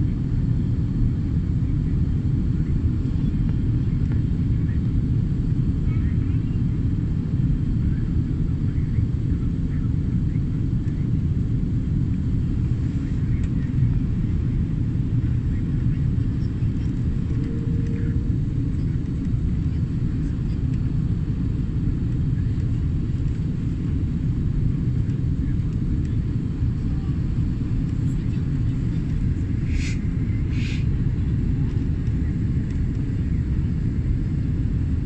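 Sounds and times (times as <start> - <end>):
airliner cabin rumble: 0.0 - 35.0.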